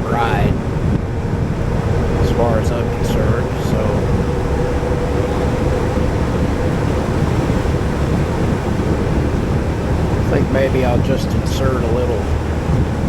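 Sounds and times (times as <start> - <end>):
road and engine hum: 0.0 - 13.0
wind rushing over microphone: 0.0 - 13.0.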